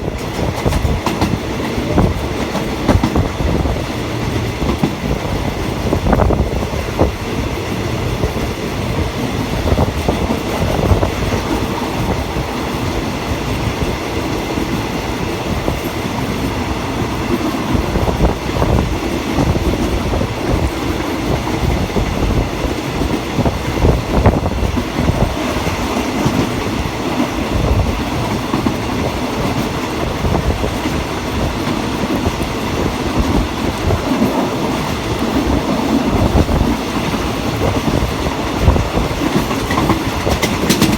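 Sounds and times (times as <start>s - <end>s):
clacks over rail joints: 0.0s - 40.9s
train wheels rumbling on rail: 0.0s - 40.9s.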